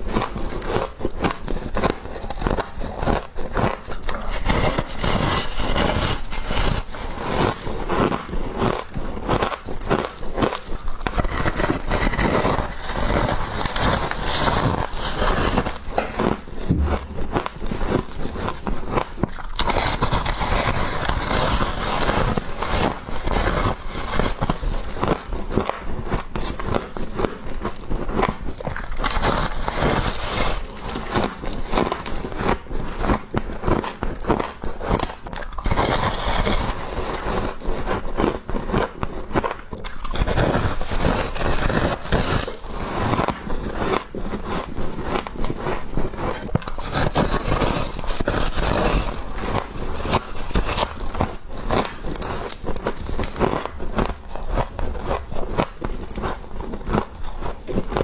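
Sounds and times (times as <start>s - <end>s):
frost being chewed: 0.0s - 58.0s.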